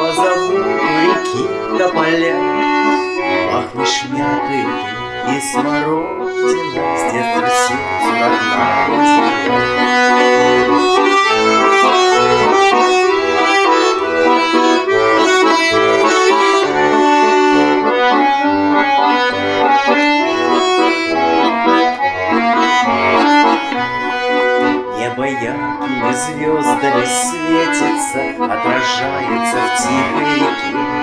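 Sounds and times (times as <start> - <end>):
button accordion playing melody: 0.0 - 31.0.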